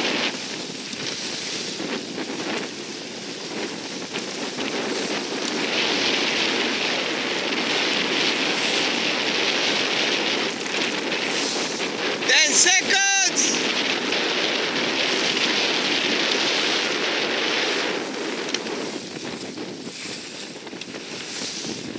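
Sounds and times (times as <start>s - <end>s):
water splashing over choppy sea: 0.0s - 21.9s
wind buffeting microphone: 0.0s - 21.9s.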